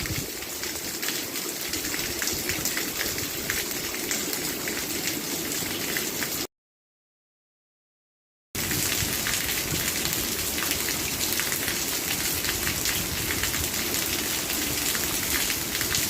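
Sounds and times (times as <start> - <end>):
steady rain falling: 0.0 - 6.5, 8.6 - 16.0.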